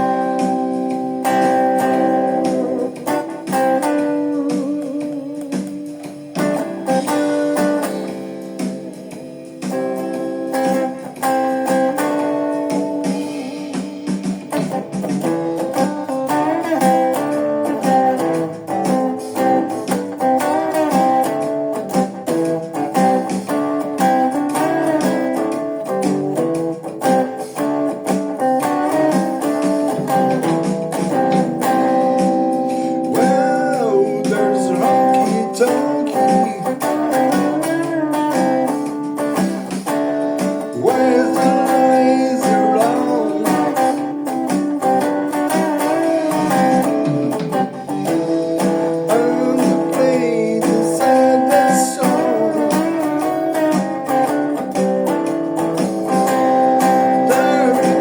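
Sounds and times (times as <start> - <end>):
plucked and strummed guitar: 0.0 - 58.0.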